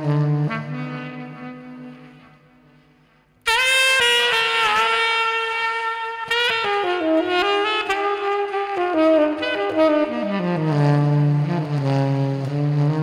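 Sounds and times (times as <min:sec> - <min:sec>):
tenor saxophone solo: 0:00.0 - 0:13.0.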